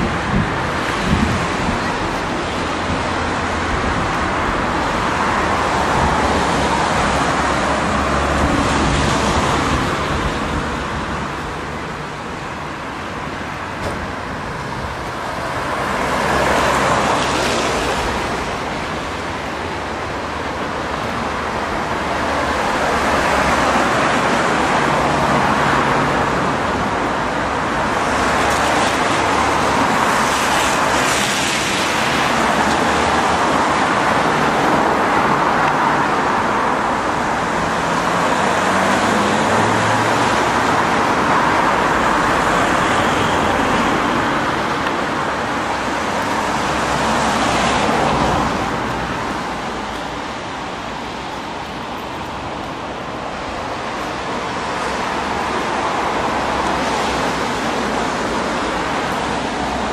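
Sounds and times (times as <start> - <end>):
car engines passing: 0.0 - 59.9
tyres hissing on wet road: 0.0 - 59.9.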